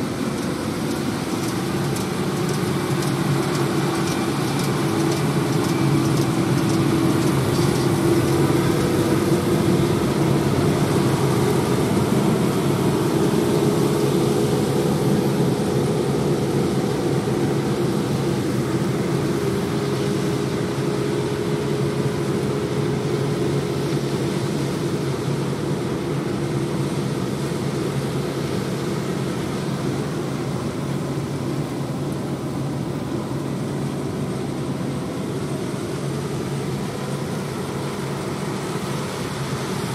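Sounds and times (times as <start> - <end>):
tractor engines droning: 0.0 - 39.9.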